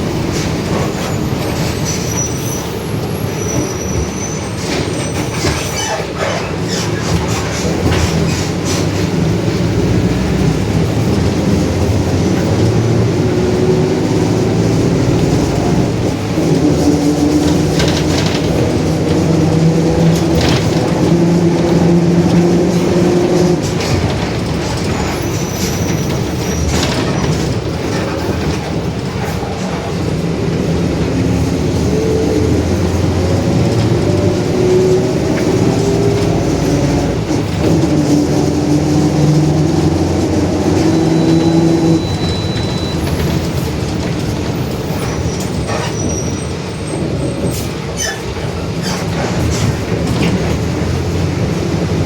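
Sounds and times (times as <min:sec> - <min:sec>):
bus body clicks and rattles: 0:00.0 - 0:52.0
bus differential growling: 0:00.0 - 0:52.0.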